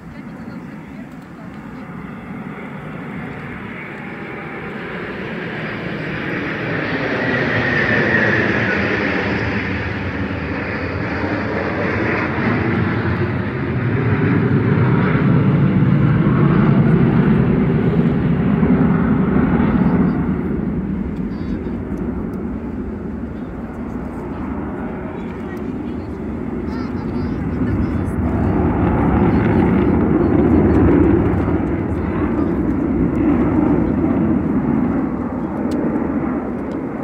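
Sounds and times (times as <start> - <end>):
jet engines passing overhead: 0.0 - 37.0.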